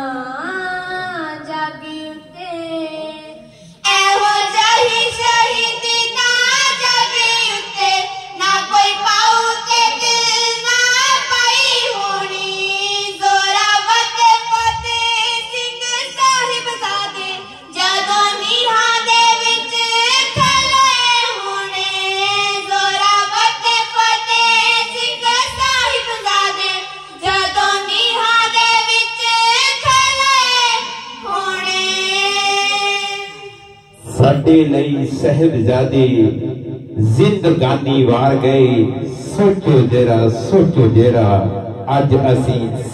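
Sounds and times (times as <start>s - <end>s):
children singing through sound system: 0.0s - 42.9s.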